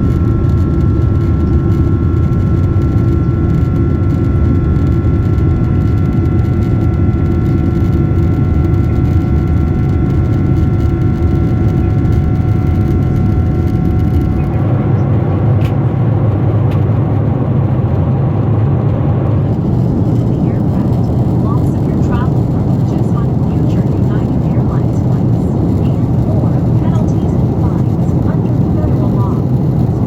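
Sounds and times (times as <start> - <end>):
constant whining tones: 0.0 - 30.0
jet engine cabin noise: 0.0 - 30.0.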